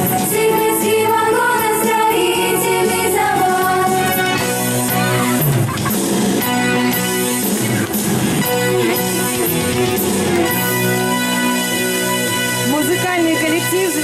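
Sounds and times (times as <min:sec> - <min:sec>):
instrumental pop music over speaker: 0:00.0 - 0:14.0.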